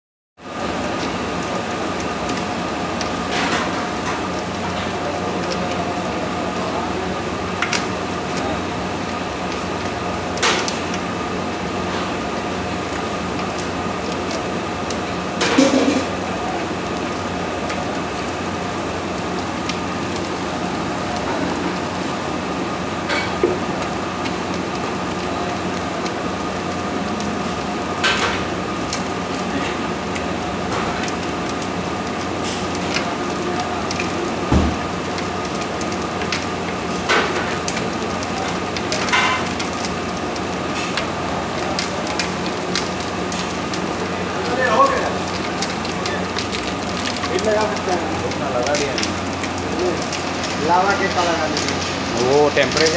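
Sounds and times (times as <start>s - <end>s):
dough mixer motor hum: 0.4s - 52.9s.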